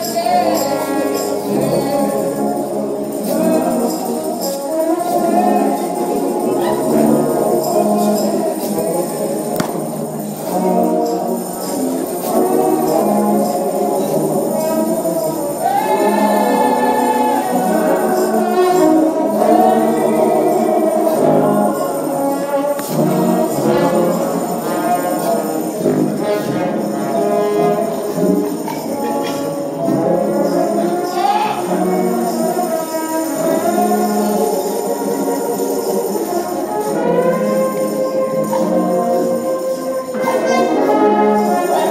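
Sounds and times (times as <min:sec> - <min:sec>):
brass band playing gospel music: 0:00.0 - 0:41.9
tambourine shaking: 0:00.0 - 0:41.9.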